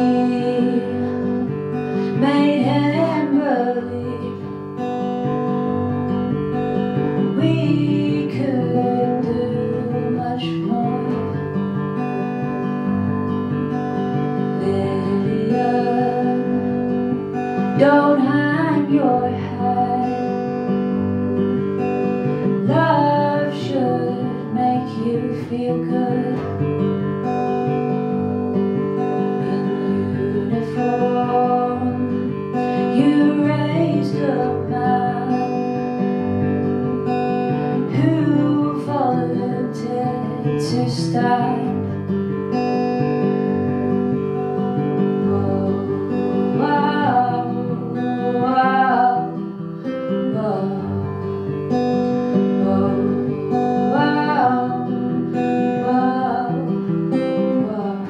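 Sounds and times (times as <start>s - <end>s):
acoustic guitar strumming: 0.0s - 58.0s
woman singing: 0.0s - 58.0s.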